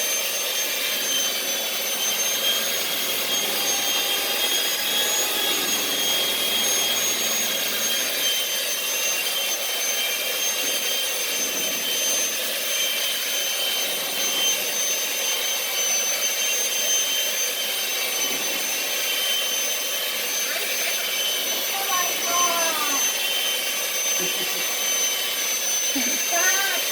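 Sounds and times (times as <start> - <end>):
electric hand mixer whirring: 0.0 - 26.9.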